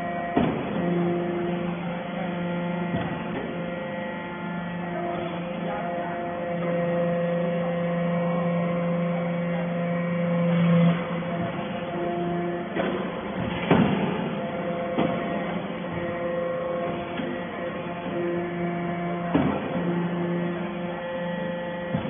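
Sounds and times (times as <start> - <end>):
hydraulic press motor humming: 0.0 - 22.0.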